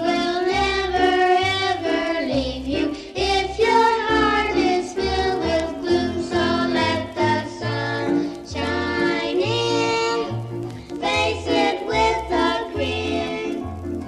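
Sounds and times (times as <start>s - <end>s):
children singing gospel song: 0.0s - 13.8s
instrumental accompaniment with bass: 0.0s - 14.0s.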